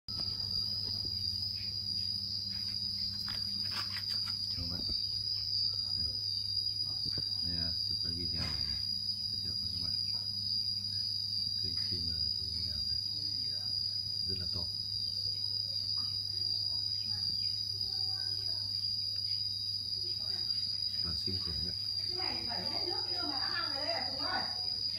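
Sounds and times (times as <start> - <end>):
insects droning: 0.1 - 24.9.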